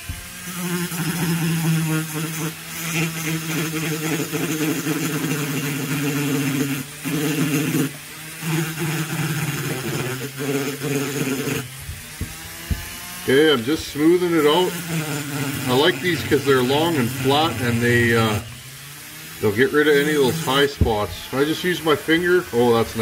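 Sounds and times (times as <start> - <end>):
rotary tool sanding metal: 0.0 - 23.0.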